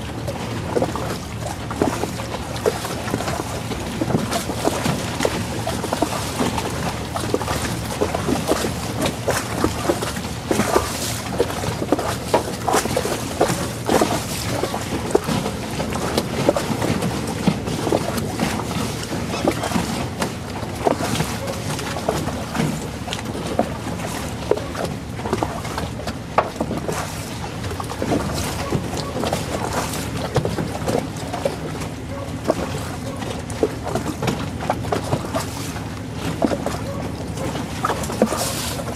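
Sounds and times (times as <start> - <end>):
boat engine drone: 0.0 - 38.9
water splashing against boat hull: 0.0 - 38.9.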